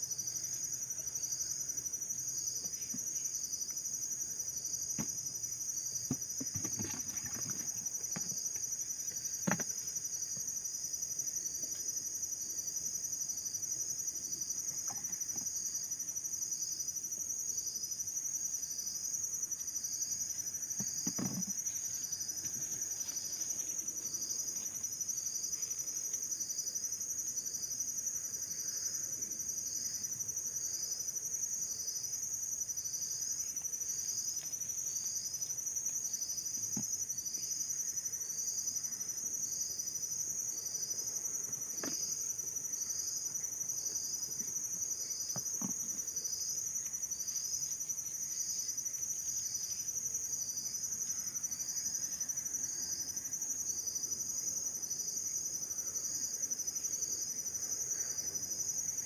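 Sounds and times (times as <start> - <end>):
insect chirping: 0.0 - 59.0
insects trilling: 0.0 - 59.0.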